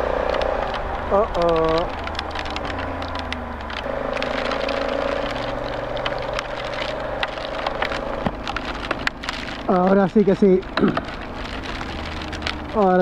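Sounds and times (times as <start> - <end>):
motorcycle engine running: 0.0 - 13.0
raindrops tapping: 0.0 - 13.0.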